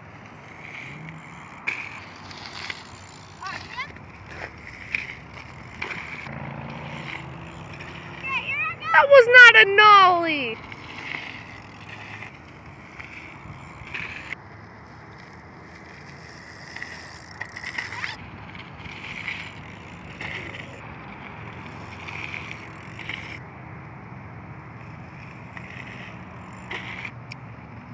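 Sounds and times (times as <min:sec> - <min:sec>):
bicycle rattle: 0:00.0 - 0:08.9, 0:10.6 - 0:23.5, 0:24.6 - 0:27.4
sharp bike clicks: 0:00.0 - 0:08.9, 0:10.6 - 0:27.5.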